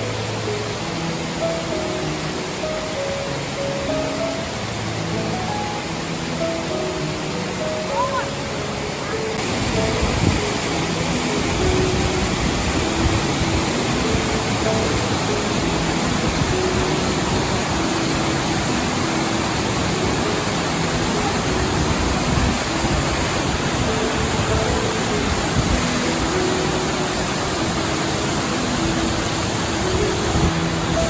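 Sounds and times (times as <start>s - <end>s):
soft music of held notes: 0.0s - 31.0s
waterfall rushing: 0.0s - 31.0s.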